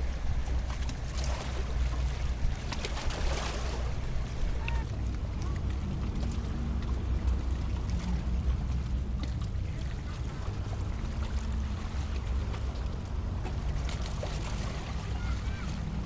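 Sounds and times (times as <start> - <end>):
steady low rumble: 0.0 - 16.0
water lapping and splashing: 0.0 - 16.0.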